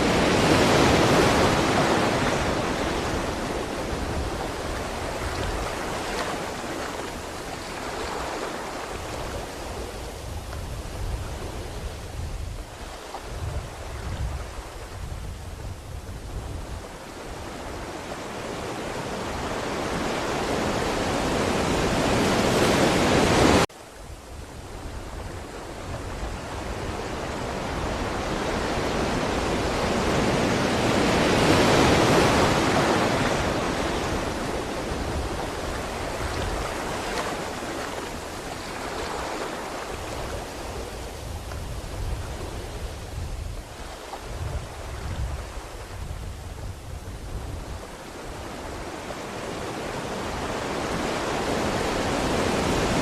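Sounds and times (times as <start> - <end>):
ocean waves washing on shore: 0.0 - 53.0.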